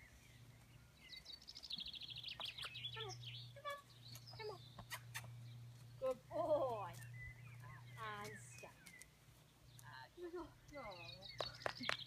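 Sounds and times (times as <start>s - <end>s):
bird trilling and chirping: 0.0s - 6.2s, 6.8s - 12.0s
steady low hum: 0.0s - 12.0s.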